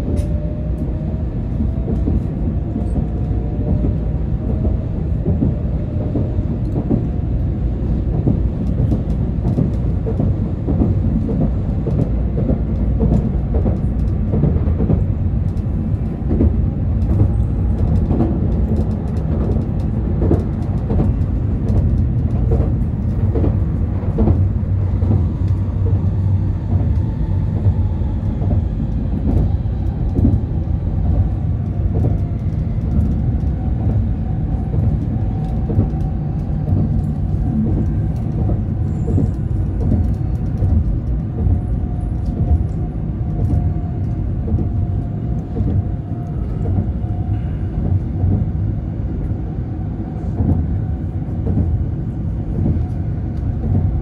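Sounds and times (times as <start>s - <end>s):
train rumbling from inside: 0.0s - 54.0s.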